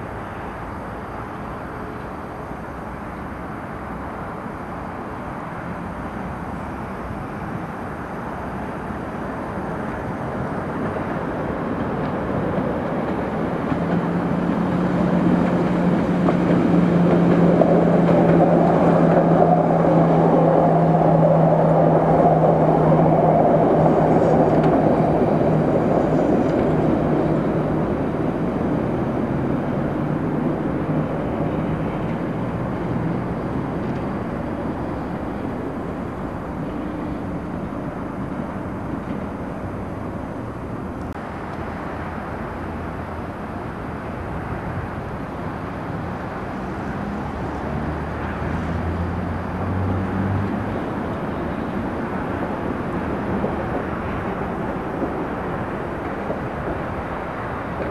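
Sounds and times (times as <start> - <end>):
tram wheels rolling on rails: 0.0 - 57.9.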